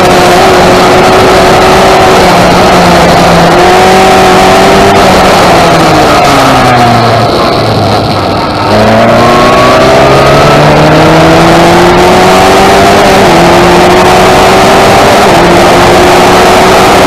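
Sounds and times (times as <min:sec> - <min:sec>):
racing car engine accelerating: 0:00.0 - 0:17.0.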